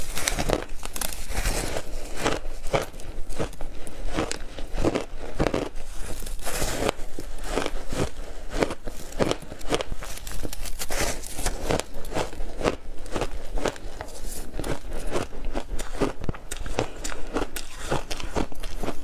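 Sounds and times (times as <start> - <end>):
ice crunching being chewed: 0.0 - 19.0.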